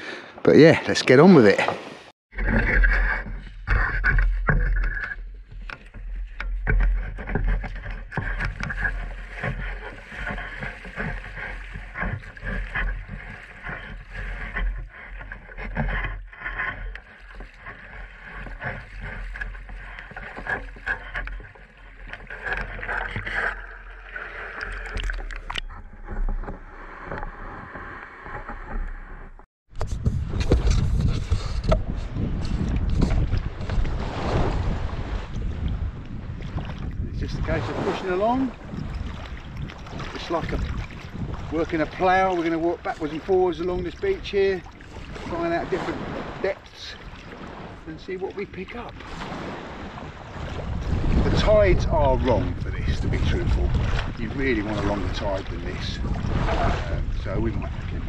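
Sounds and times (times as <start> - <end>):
splashing through shallow water: 1.7 - 25.8, 30.6 - 58.0.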